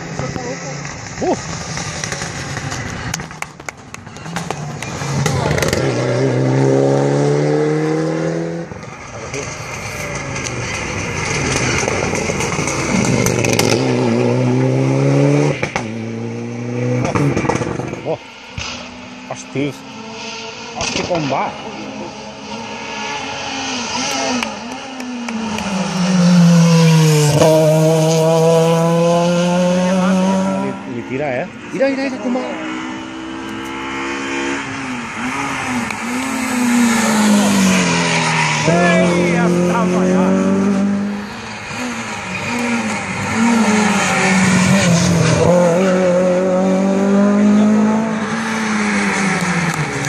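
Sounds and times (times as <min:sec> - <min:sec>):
rally car engine at high revs: 0:00.0 - 0:50.0.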